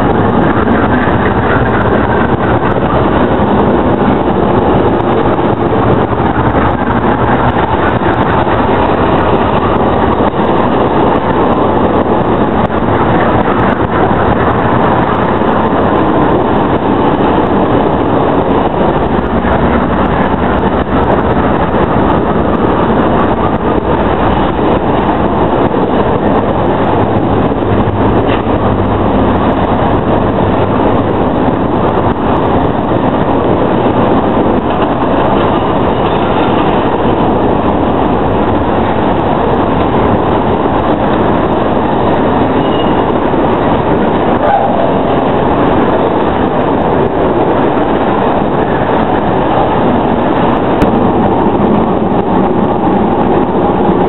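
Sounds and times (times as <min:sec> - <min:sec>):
freight cars rolling on rails: 0:00.0 - 0:54.0
locomotive engine running loudly: 0:00.0 - 0:54.0.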